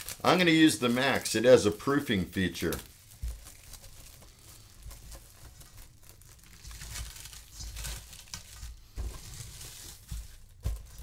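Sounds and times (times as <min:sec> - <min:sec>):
cling wrap crinkling: 0:00.0 - 0:11.0.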